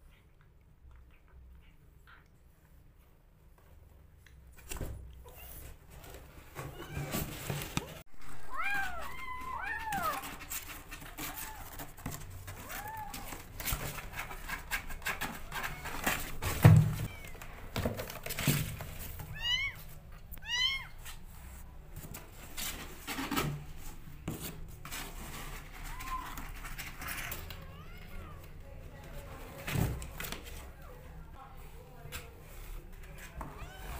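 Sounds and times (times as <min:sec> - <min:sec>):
kittens moving in cardboard box: 0:04.6 - 0:33.9.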